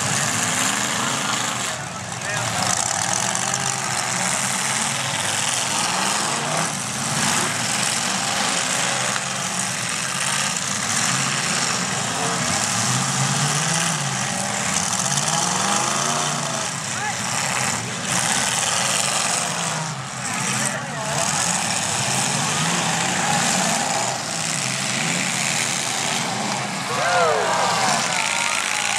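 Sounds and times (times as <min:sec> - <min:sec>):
car engines revving: 0:00.0 - 0:28.9.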